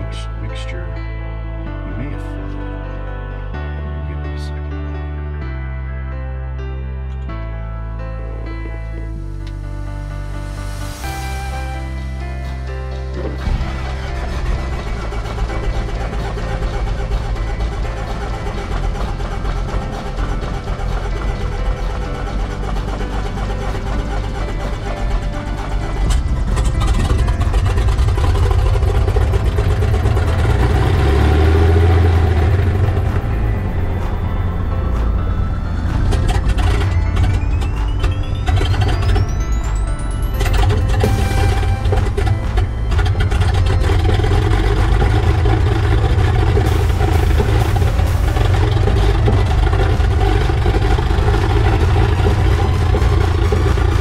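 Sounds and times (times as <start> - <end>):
propeller plane engine droning: 7.6 - 54.0
faint rising tone: 8.5 - 54.0.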